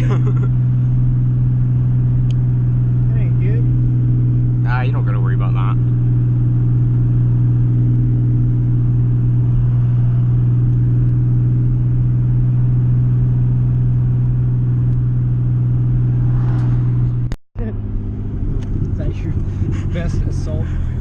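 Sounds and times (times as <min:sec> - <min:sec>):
road rumble: 0:00.0 - 0:21.0
vehicle engine droning: 0:00.0 - 0:21.0.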